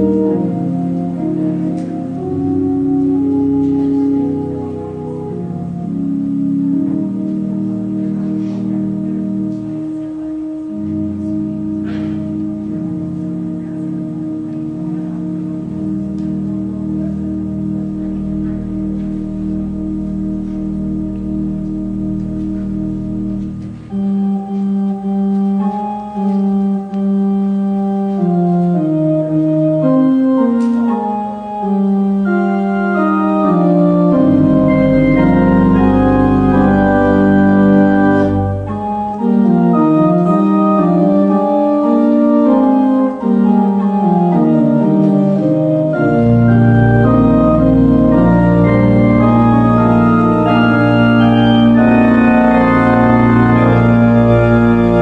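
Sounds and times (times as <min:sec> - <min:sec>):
church organ chords: 0:00.0 - 0:55.0
deep organ pedal bass: 0:00.0 - 0:55.0.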